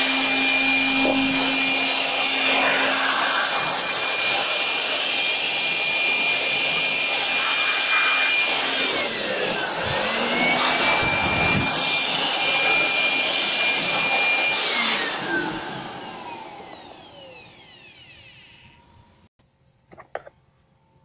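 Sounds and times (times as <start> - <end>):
motor winding down: 0.0 - 19.2
electric dust blower running: 0.0 - 19.3.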